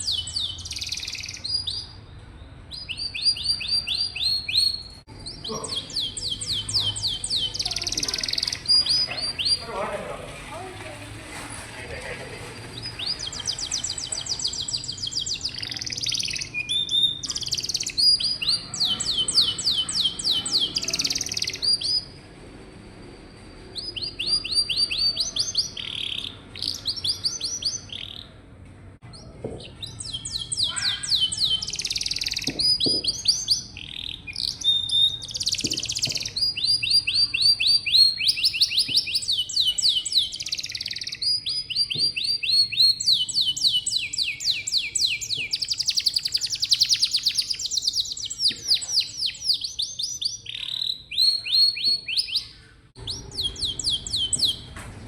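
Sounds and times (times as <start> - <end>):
canary singing trills: 0.0 - 10.2, 12.6 - 22.2, 22.9 - 28.4, 29.0 - 54.8.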